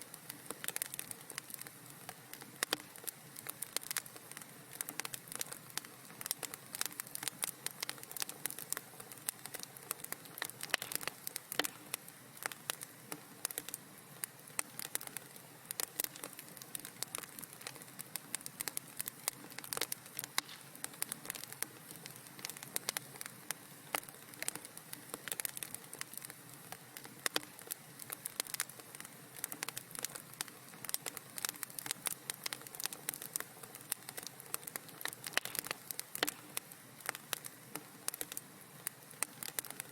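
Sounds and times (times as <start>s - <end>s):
fire crackling in a fireplace: 0.0s - 39.9s.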